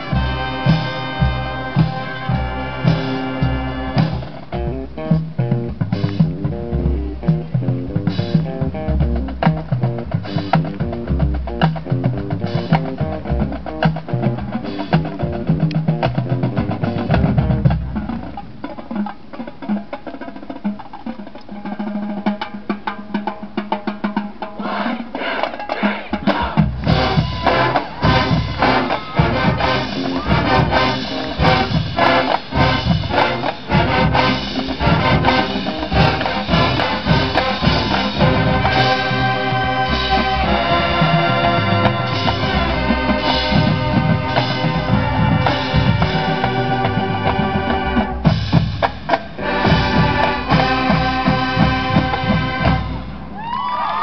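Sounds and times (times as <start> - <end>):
snare and bass drums: 0.0 - 53.4
marching band playing: 0.0 - 53.6.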